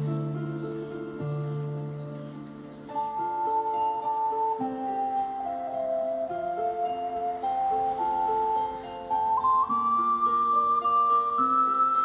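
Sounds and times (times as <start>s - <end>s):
ocarina playing slow melody: 0.0s - 12.0s.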